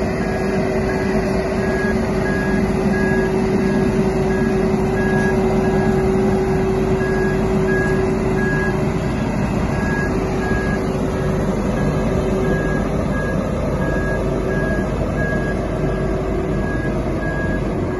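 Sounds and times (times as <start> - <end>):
road sweeper engine droning: 0.0 - 17.9.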